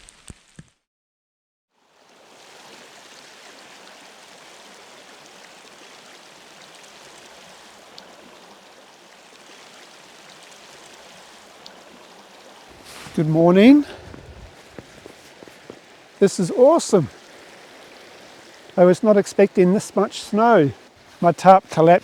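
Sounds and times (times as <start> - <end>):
small river flowing: 1.8 - 22.0.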